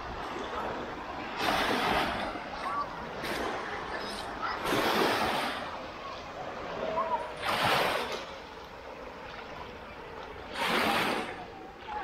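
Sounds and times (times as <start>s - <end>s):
sea waves breaking on beach: 0.0s - 12.0s.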